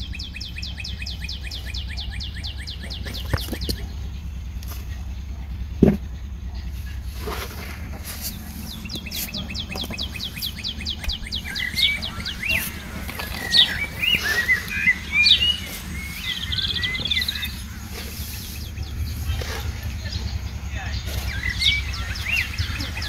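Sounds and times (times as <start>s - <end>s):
songbird singing: 0.0s - 23.0s
steady low hum: 0.0s - 23.0s.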